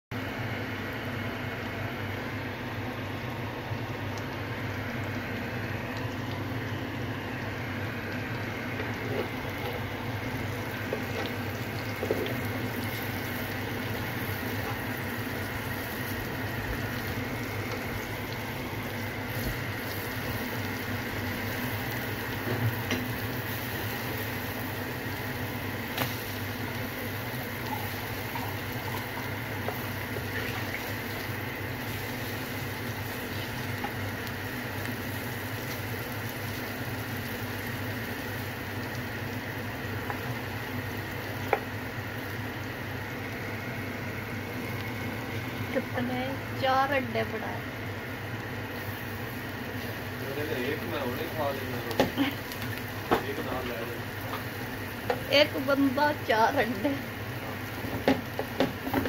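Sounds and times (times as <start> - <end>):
eggs sizzling in a pan: 0.2 - 59.0.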